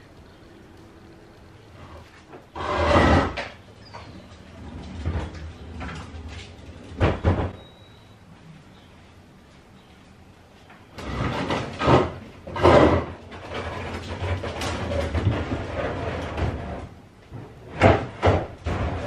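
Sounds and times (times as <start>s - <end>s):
bin wheels rumbling on concrete: 0.0s - 7.6s, 11.0s - 19.0s.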